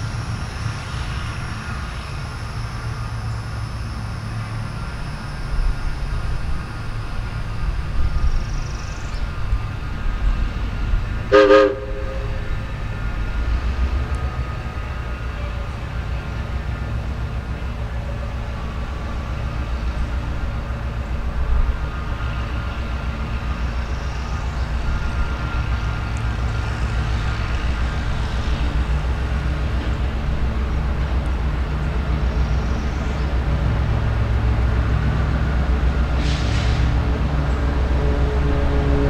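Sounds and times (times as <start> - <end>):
diesel train engine rumble: 0.0 - 39.0.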